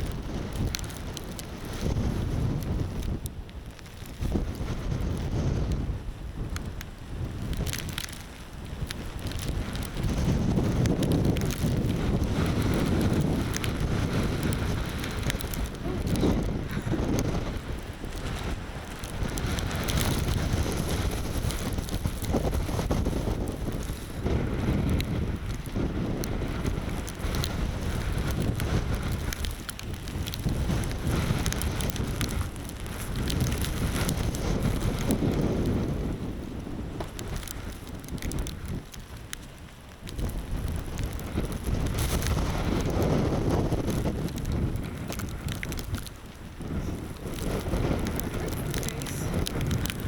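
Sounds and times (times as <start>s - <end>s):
small sharp ticks: 0.0s - 5.8s, 6.5s - 35.9s, 37.0s - 50.0s
wind buffeting microphone: 0.0s - 50.0s.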